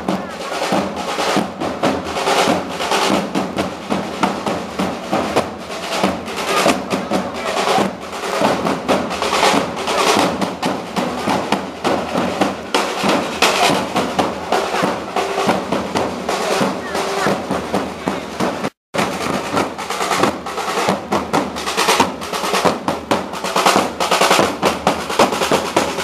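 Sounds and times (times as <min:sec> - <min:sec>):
snare drums marching rhythm: 0:00.0 - 0:26.0.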